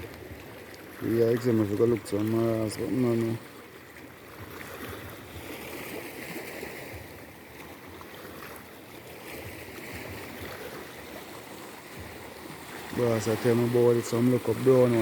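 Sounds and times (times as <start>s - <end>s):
sea surf washing against shore: 0.0s - 15.0s.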